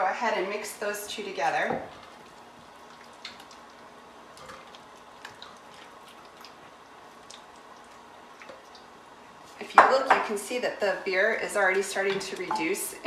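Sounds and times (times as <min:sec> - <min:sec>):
liquid simmering in a frying pan: 0:00.5 - 0:13.0.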